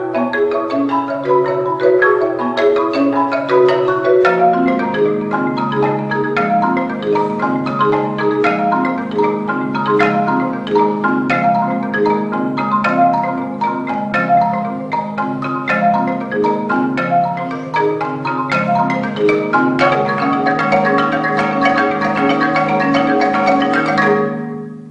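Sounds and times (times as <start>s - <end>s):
marimba ensemble playing: 0.0s - 24.9s.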